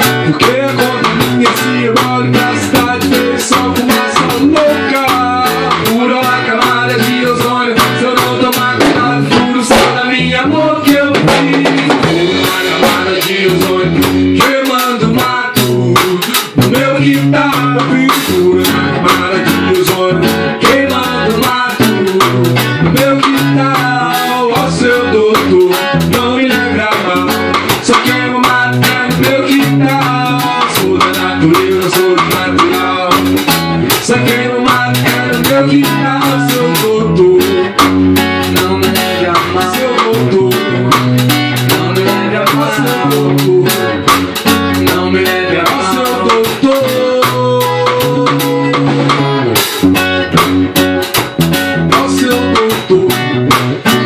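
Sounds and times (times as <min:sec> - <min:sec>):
band playing instrumental: 0:00.0 - 0:54.0
guitar: 0:00.0 - 0:54.0
steady beat: 0:00.0 - 0:54.0.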